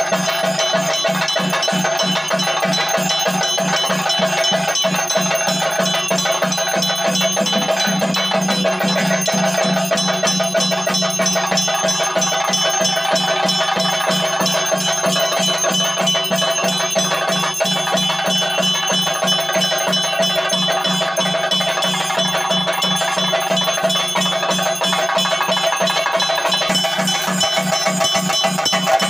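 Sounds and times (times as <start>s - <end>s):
drums beaten in fast rhythm: 0.0s - 29.0s
metal hand cymbals ringing: 0.0s - 29.0s.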